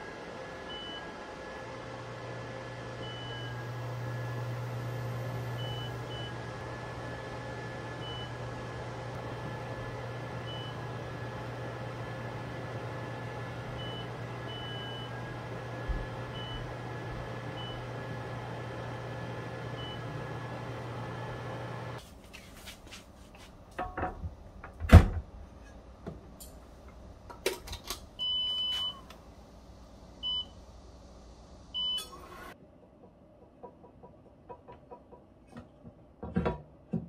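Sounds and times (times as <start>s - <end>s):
induction cooktop humming: 0.0s - 32.6s.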